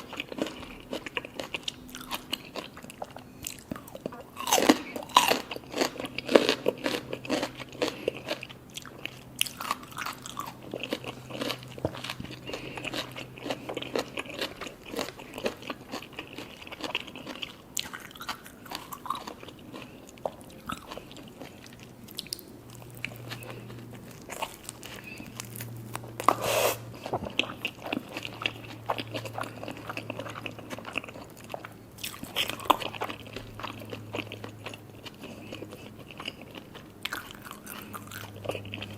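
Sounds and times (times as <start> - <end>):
crisp crunching while chewing: 0.0 - 38.9.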